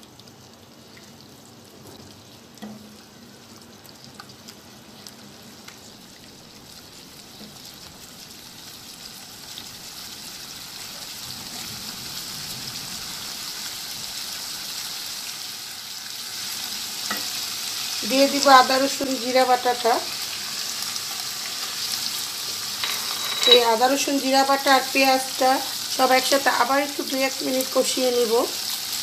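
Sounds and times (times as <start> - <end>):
onion paste sizzling in oil: 0.0 - 29.0.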